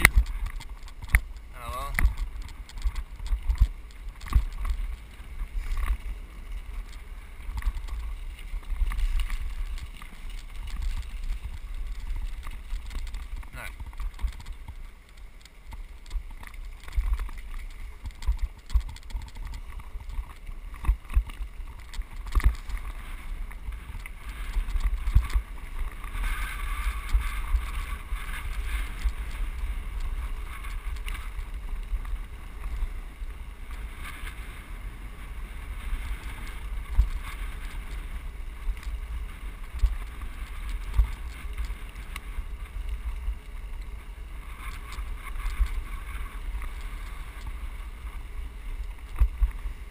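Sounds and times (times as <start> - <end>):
bicycle rumble and jolts on gravel: 0.0 - 49.9.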